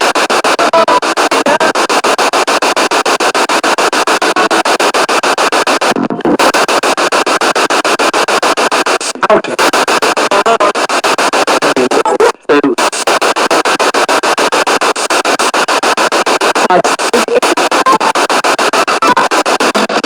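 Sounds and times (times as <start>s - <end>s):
radio sweeping through stations: 0.0s - 20.0s.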